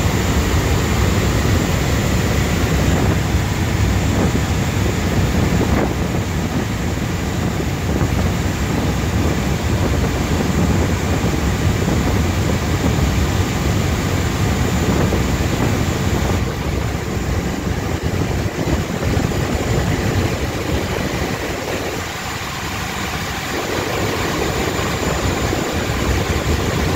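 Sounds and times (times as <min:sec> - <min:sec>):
boat engines droning: 0:00.0 - 0:26.9
water rushing along hull: 0:00.0 - 0:26.9.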